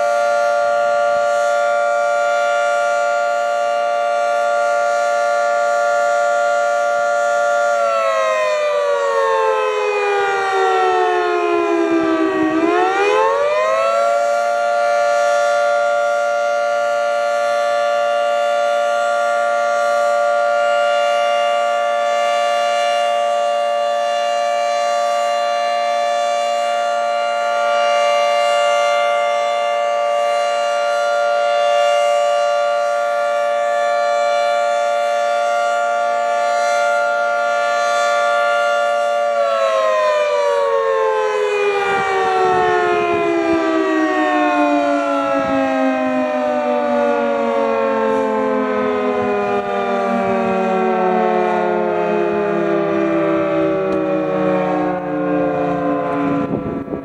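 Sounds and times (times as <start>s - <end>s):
fire station siren: 0.0s - 57.0s.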